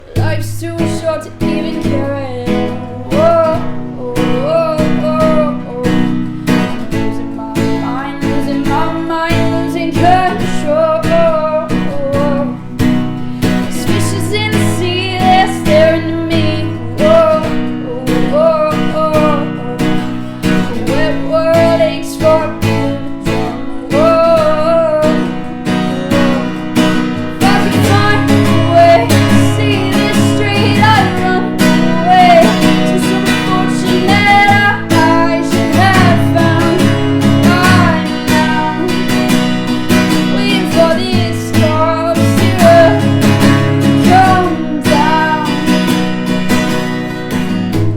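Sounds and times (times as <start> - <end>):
person singing: 0.0 - 46.8
strummed acoustic guitar: 0.0 - 47.9.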